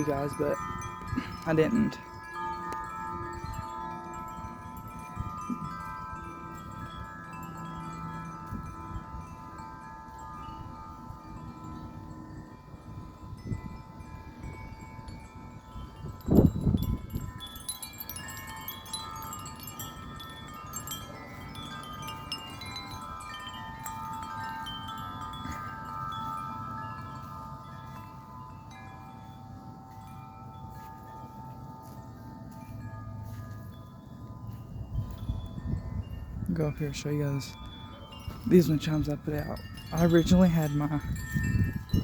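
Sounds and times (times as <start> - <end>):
wind buffeting microphone: 0.0 - 29.4, 32.6 - 42.0
wind chimes ringing: 0.0 - 42.0.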